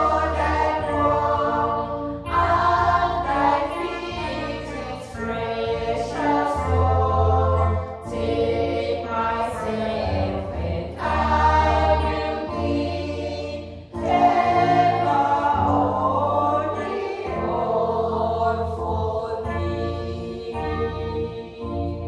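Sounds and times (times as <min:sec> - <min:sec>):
congregation singing a hymn: 0:00.0 - 0:22.0.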